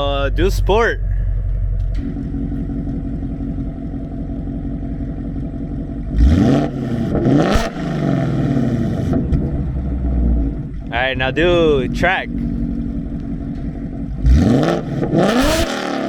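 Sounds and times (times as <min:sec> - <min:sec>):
car engine idling with burble: 0:00.0 - 0:16.0
engine revving: 0:00.0 - 0:16.0.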